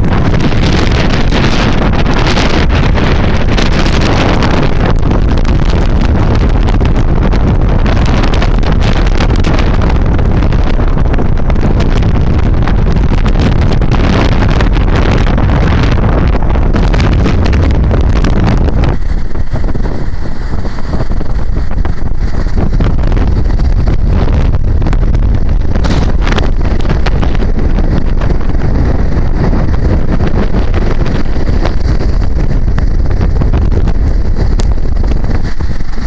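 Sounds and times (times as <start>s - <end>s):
strong wind buffeting microphone: 0.0s - 36.0s.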